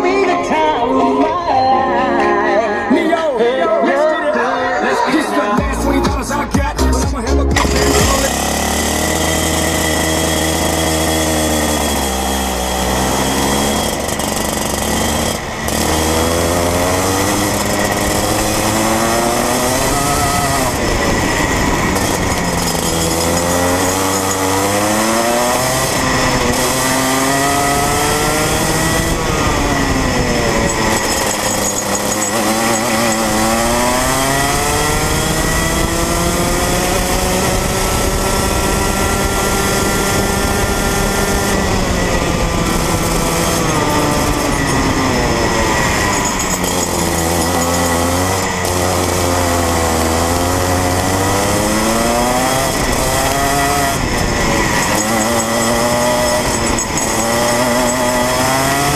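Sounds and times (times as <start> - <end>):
two-stroke kart engine revving: 5.4 - 58.9.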